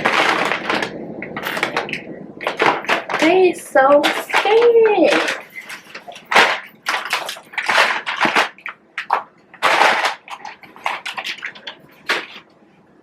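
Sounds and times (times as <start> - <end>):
wrappers rustling: 0.0 - 12.5.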